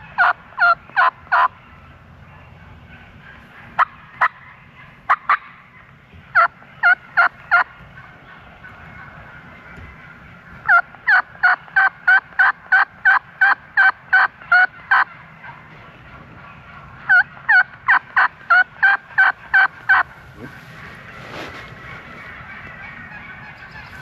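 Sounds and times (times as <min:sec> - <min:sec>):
turkey yelps: 0:00.0 - 0:24.0.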